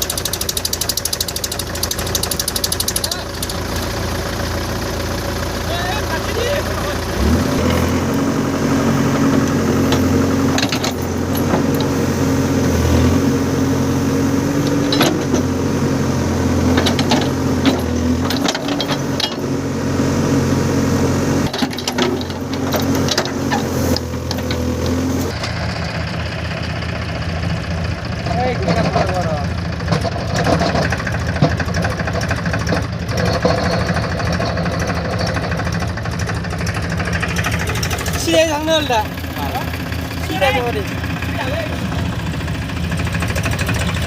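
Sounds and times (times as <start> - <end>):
diesel engine working hard: 0.0 - 44.0.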